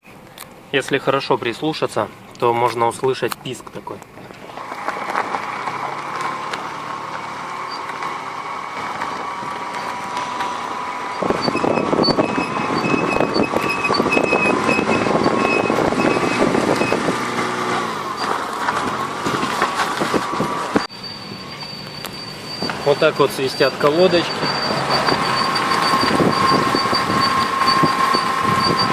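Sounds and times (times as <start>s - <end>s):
brake squealing: 0.0s - 28.9s
car rolling noise: 0.1s - 28.9s.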